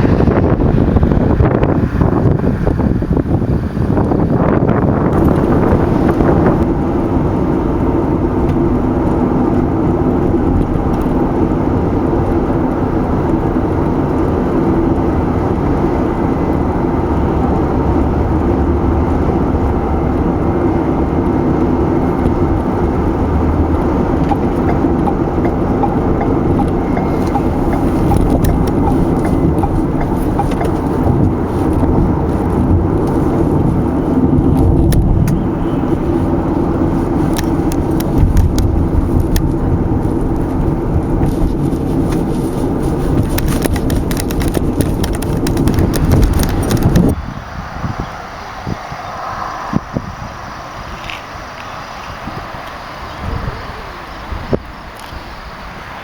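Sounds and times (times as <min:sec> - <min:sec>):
car tyre and engine rumble: 0:00.0 - 0:56.0.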